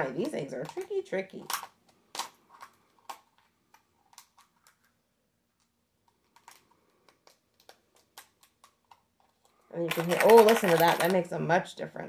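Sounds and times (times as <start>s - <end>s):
plastic egg halves clicking together: 0.0s - 5.0s, 5.6s - 11.2s.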